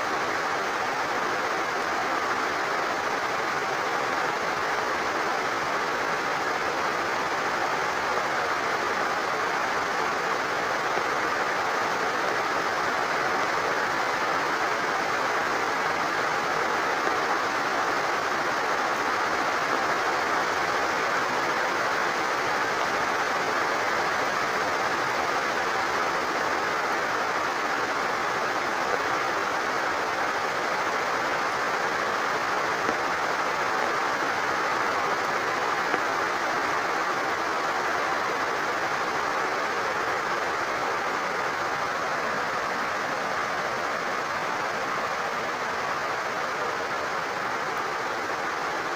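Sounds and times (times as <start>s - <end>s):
overflowing water: 0.0s - 48.9s
rain falling: 0.0s - 48.9s.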